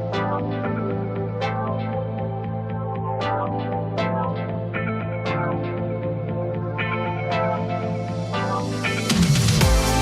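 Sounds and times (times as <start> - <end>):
mellow electronic music: 0.0 - 10.0.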